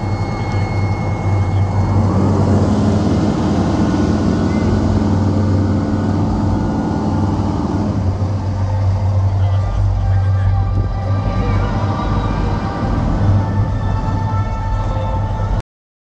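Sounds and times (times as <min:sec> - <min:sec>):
fire truck diesel engine hum: 0:00.0 - 0:15.6
higher steady note: 0:00.0 - 0:15.6.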